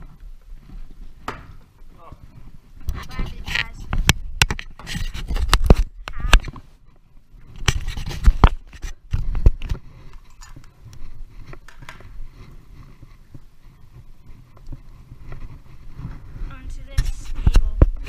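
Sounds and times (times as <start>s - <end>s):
camera handling rustling and scraping: 2.9s - 18.0s.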